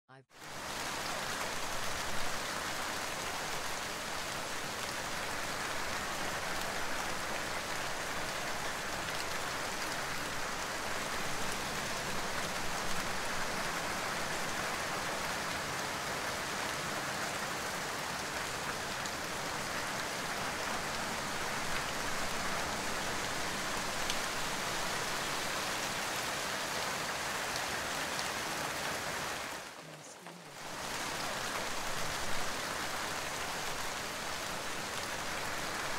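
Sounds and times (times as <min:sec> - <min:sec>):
steady rain: 0:00.3 - 0:35.9.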